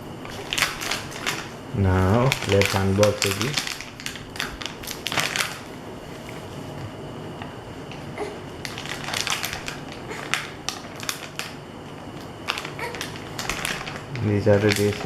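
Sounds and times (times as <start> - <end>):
packaging crinkling and rustling: 0.2 - 6.6, 8.6 - 15.0.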